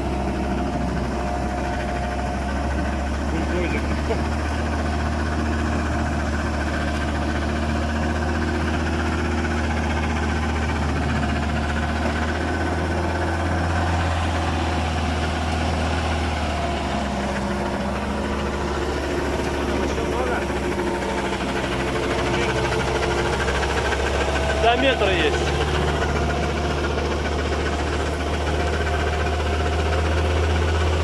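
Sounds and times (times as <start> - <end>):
vehicle engine running at low revs: 0.0 - 31.0.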